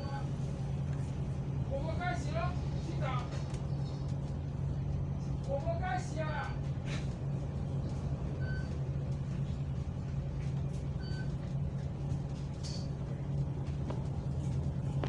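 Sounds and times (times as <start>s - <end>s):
bus engine humming: 0.0s - 15.0s.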